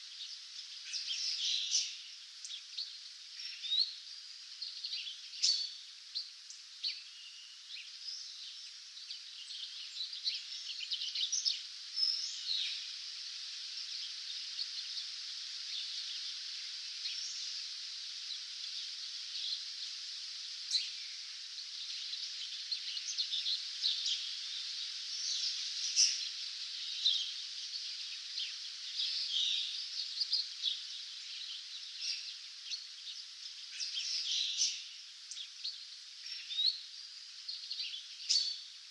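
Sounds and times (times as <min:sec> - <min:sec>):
high background hiss: 0:00.0 - 0:38.9
songbirds chirping and trilling: 0:00.0 - 0:38.9.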